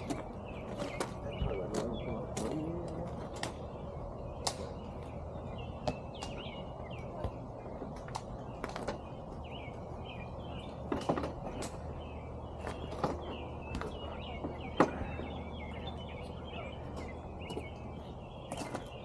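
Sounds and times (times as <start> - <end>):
low steady hum: 0.0 - 19.0
small birds chirping: 0.0 - 19.0.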